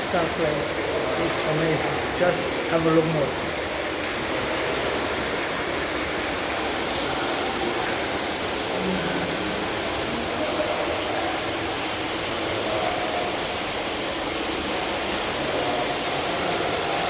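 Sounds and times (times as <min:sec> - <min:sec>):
jacuzzi water churning: 0:00.0 - 0:17.0.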